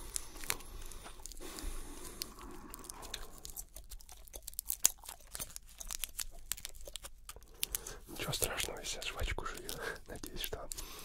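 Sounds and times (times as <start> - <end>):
gum chewing: 0.0 - 11.0
gum wrapper crackling: 0.0 - 11.0.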